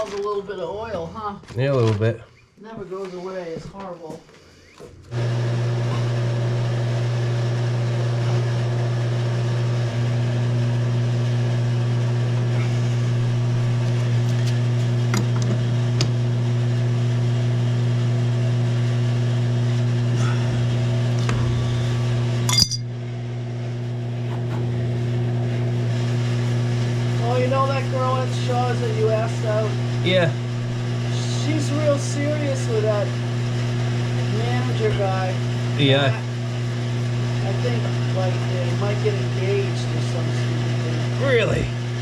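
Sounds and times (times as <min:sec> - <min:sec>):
oil burner humming: 0:04.7 - 0:42.0.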